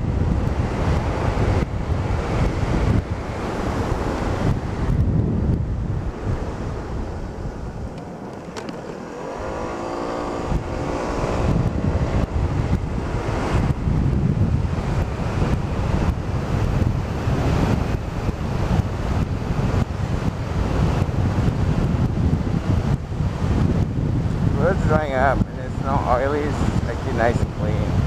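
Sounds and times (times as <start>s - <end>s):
scooter engine: 0.0s - 25.5s
wind buffeting microphone: 0.0s - 28.0s.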